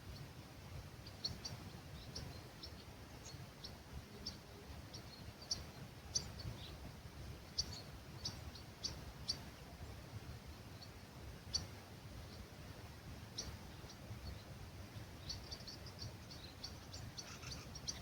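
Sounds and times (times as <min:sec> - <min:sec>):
faint breeze: 0:00.0 - 0:18.0
small songbirds chirping: 0:00.0 - 0:18.0.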